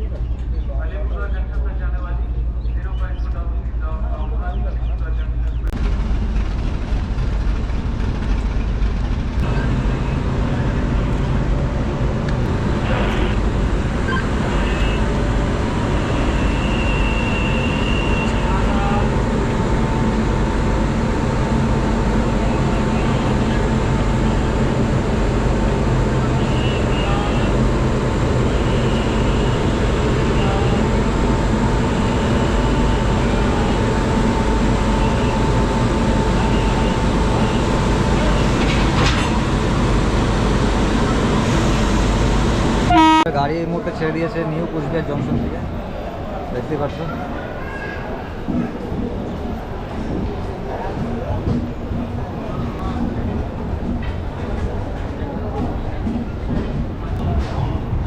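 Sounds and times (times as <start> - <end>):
train rumbling at a station: 0.0 - 58.0.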